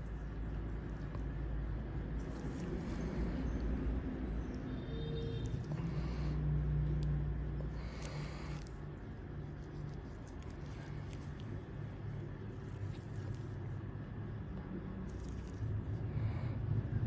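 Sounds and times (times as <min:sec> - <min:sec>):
low background rumble: 0:00.0 - 0:17.0
low hum: 0:00.0 - 0:17.0.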